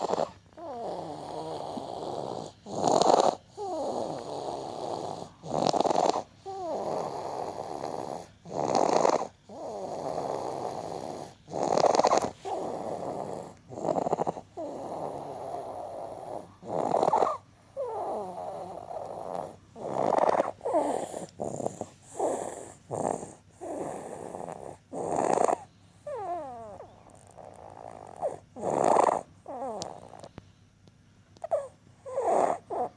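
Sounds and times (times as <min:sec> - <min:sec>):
wheezing breathing: 0:00.0 - 0:30.4.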